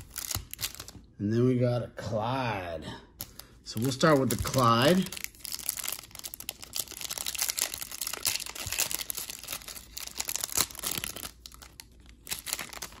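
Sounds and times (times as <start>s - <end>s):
plastic wrapper crinkling and tearing: 0.0s - 1.0s, 3.2s - 13.0s.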